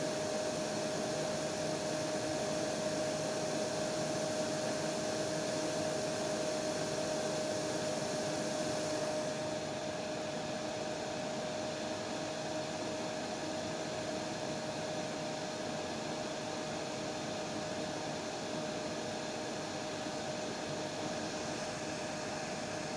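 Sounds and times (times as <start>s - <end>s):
hair dryer running: 0.0s - 22.9s.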